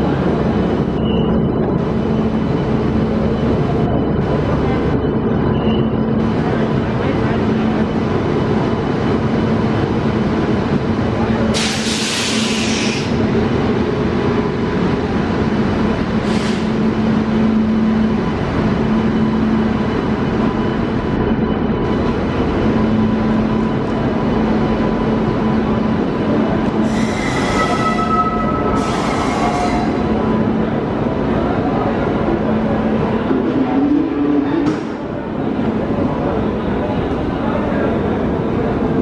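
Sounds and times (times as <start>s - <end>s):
train coaches rumbling over rails: 0.0s - 39.0s.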